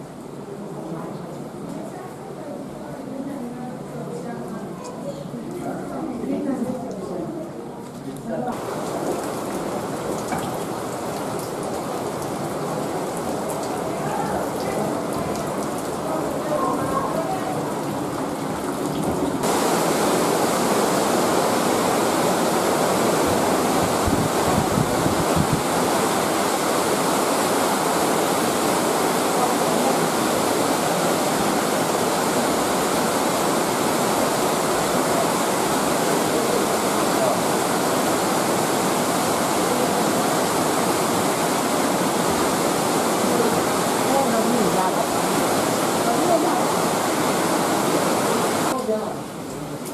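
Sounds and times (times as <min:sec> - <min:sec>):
water rushing in a cave: 0:08.4 - 0:49.9.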